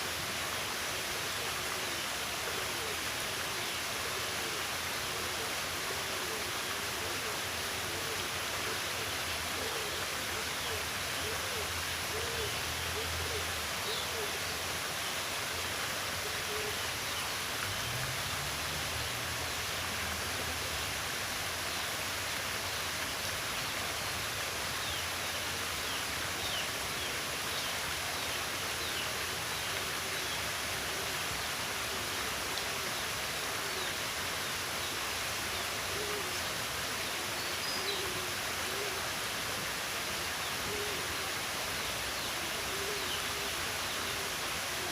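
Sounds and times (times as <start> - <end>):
rushing water: 0.0 - 44.9.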